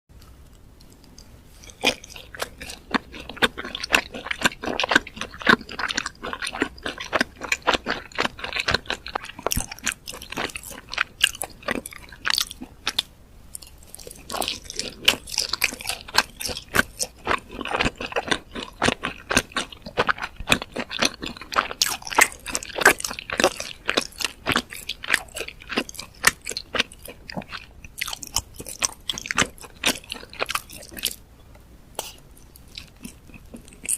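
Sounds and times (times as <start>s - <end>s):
chewing and crunching fried food: 0.2s - 31.3s, 32.0s - 33.9s.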